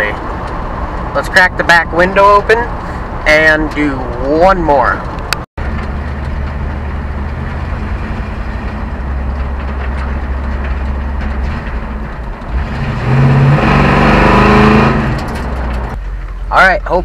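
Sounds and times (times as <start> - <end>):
truck engine through exhaust: 0.0 - 16.5.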